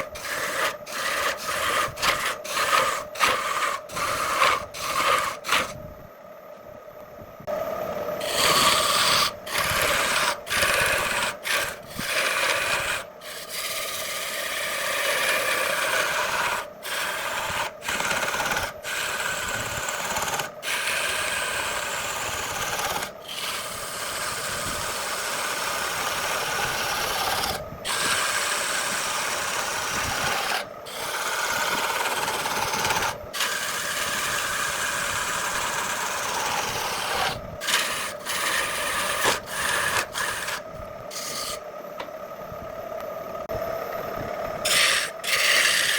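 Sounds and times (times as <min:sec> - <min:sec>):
tools scraping and rasping on wood: 0:00.0 - 0:05.8, 0:08.2 - 0:41.6, 0:44.7 - 0:45.9.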